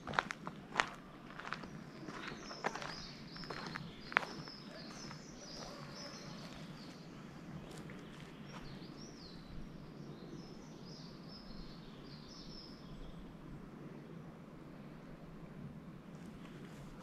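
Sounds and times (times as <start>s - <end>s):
small birds singing: 0.0s - 14.4s
low background noise: 0.0s - 17.0s.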